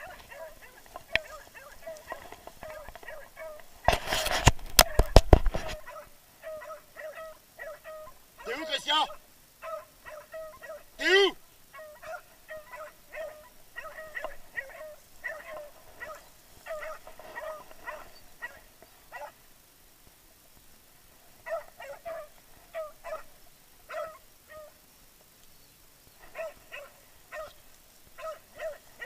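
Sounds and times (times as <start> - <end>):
dogs barking: 0.0 - 4.1, 4.8 - 19.4, 21.4 - 24.8, 26.2 - 29.0.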